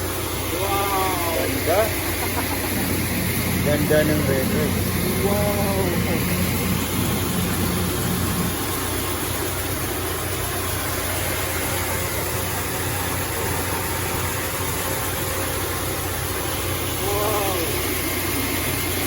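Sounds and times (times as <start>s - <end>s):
rice mill humming and hissing: 0.0s - 19.0s.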